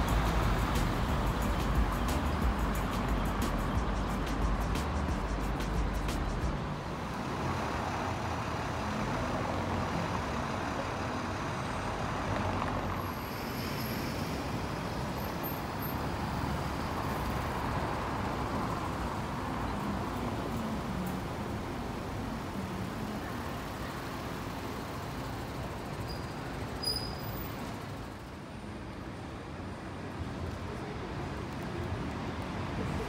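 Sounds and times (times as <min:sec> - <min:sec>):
bus passing: 0:00.0 - 0:33.0
passing vehicles: 0:00.0 - 0:33.0.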